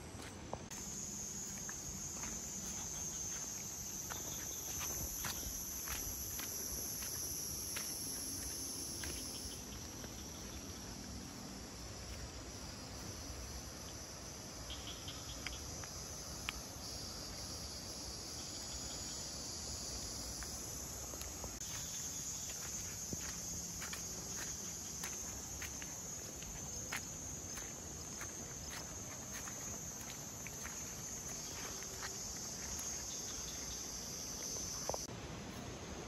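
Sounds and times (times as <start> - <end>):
insects chirring: 0.0 - 35.8.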